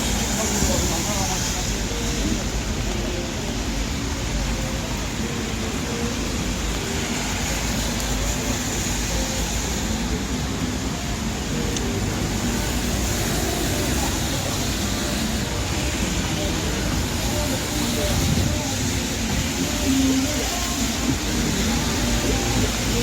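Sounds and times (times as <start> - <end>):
faint voices of passers-by: 0.0 - 23.0
rain hiss: 0.0 - 23.0
traffic on wet roads: 0.0 - 23.0.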